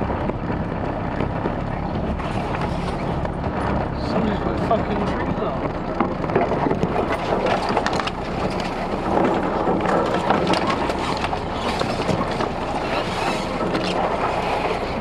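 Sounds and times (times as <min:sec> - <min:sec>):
body knocks and rattles: 0:00.0 - 0:15.0
road noise: 0:00.0 - 0:15.0
vehicle engine running: 0:00.0 - 0:15.0.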